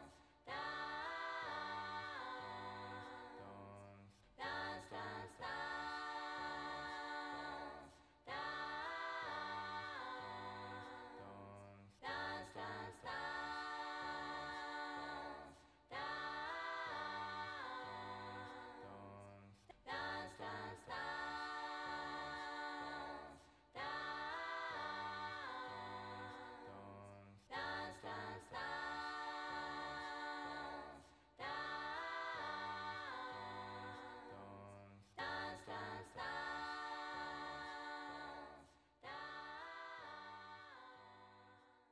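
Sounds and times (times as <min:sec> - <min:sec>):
wordless vocal harmonies: 0:00.0 - 0:41.9.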